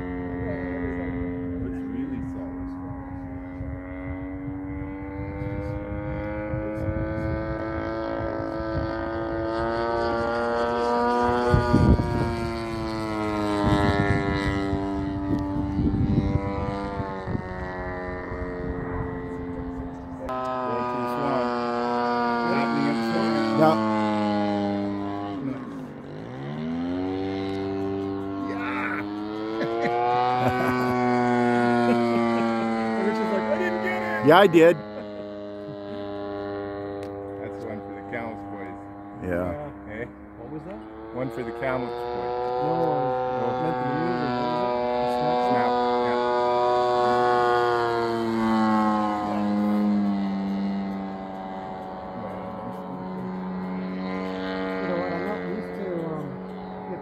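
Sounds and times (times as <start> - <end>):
model airplane engine buzzing: 0.0 - 57.0.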